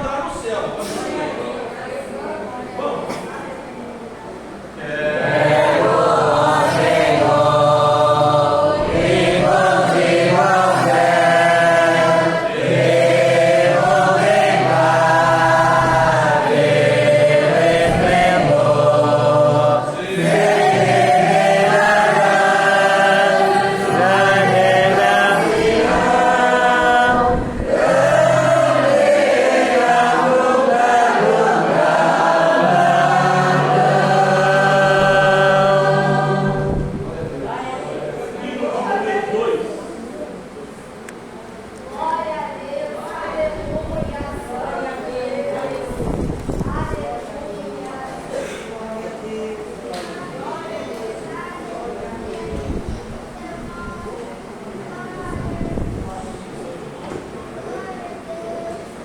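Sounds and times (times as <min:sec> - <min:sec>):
congregation singing a hymn: 0:04.3 - 0:41.9, 0:42.9 - 0:59.0.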